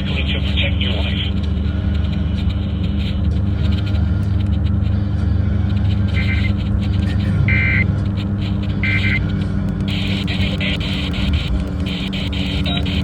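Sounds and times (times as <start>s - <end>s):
car engine rumble: 0.0s - 13.0s
car radio playing faintly: 0.0s - 13.0s
electronic chirps from radio: 0.0s - 13.0s
road noise: 0.0s - 13.0s.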